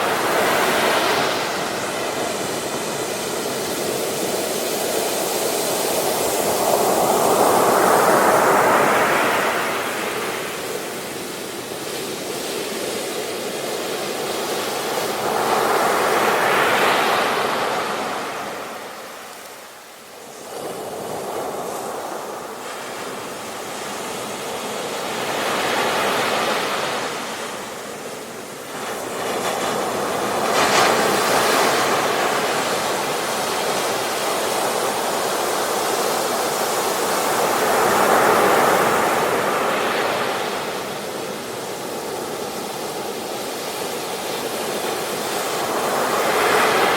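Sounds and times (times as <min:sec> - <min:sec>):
waves breaking on a beach: 0:00.0 - 0:46.9.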